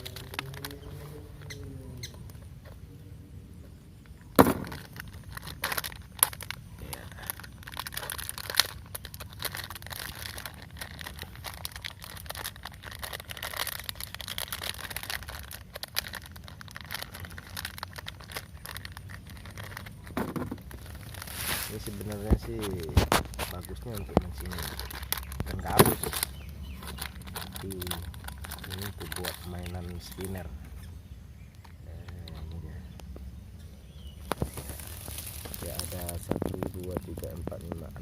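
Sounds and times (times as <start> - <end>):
plastic packet crinkling: 0.0 - 1.6, 4.5 - 30.5, 34.2 - 38.0.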